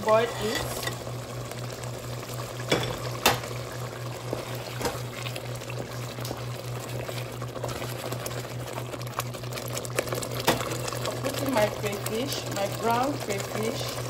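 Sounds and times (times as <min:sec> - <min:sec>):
pot bubbling on stove: 0:00.0 - 0:14.0.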